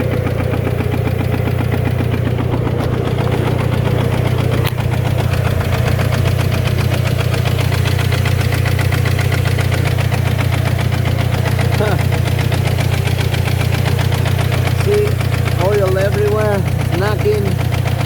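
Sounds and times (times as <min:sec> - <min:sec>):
engine knocking: 0:00.0 - 0:18.0.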